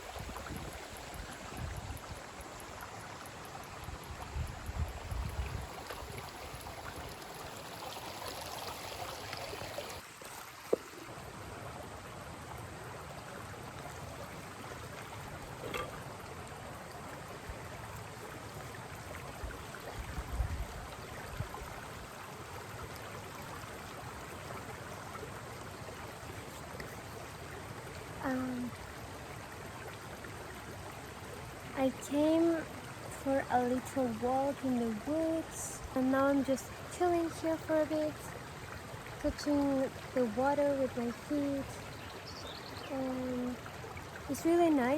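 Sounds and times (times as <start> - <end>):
stream flowing over rocks: 0.0 - 44.9.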